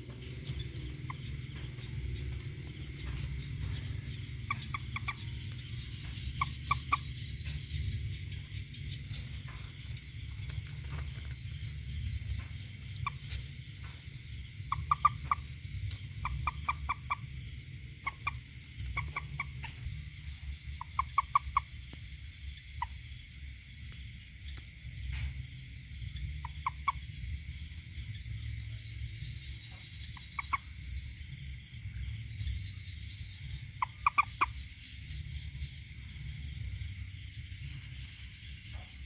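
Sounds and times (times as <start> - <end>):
steady low rumble: 0.0 - 39.0
toad calling: 0.0 - 39.0.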